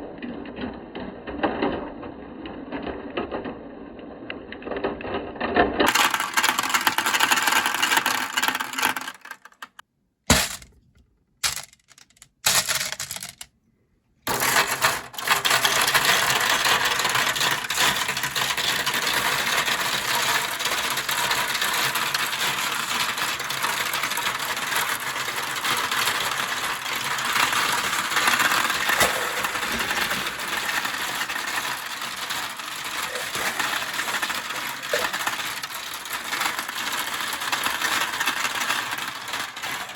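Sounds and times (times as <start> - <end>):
marbles rattling down plastic track: 5.6 - 10.7, 11.4 - 13.5, 14.3 - 39.9.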